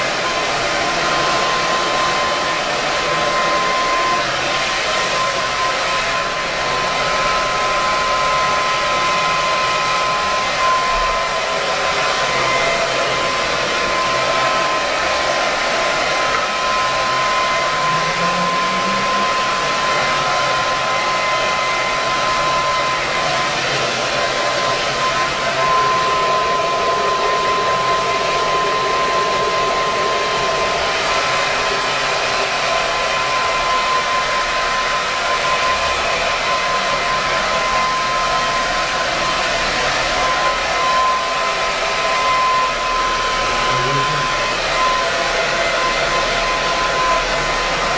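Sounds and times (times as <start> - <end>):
blow dryer running: 0.0 - 47.9.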